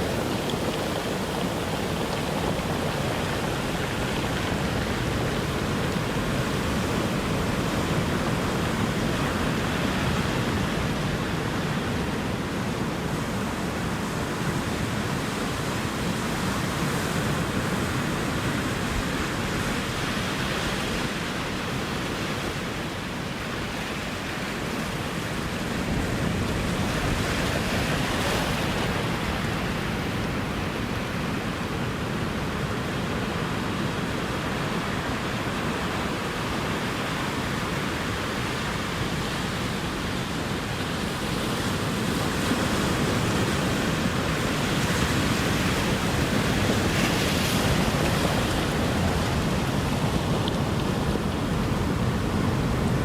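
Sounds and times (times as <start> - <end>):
ocean surf washing ashore: 0.0 - 53.0.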